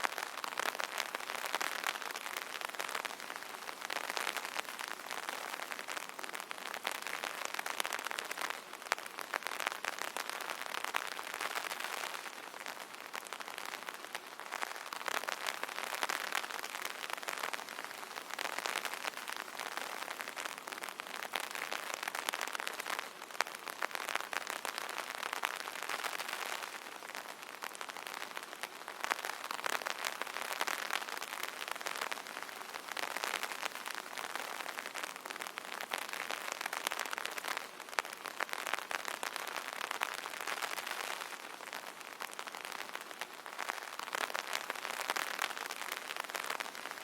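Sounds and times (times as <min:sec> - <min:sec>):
rain tapping on an umbrella: 0:00.0 - 0:47.0.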